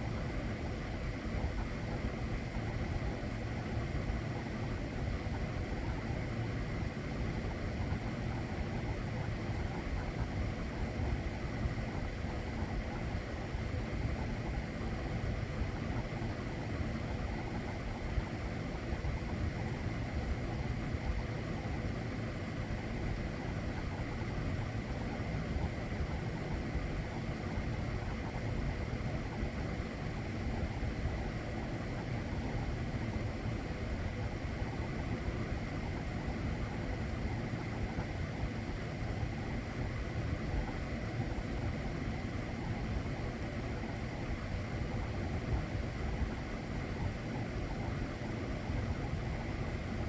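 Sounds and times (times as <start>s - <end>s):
faint hum: 0.0s - 50.0s.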